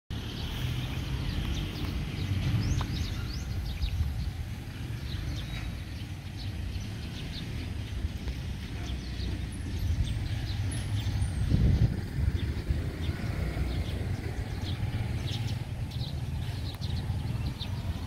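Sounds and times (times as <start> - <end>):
birds chirping: 0.1 - 18.0.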